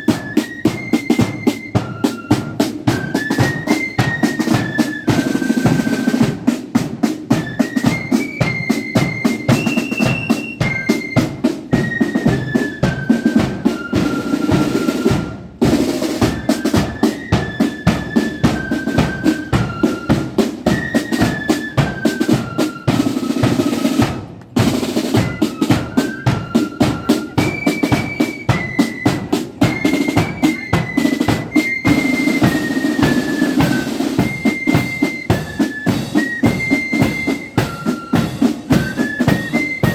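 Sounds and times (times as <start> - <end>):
flute melody: 0.0 - 39.9
snare drum rolls: 0.0 - 39.9.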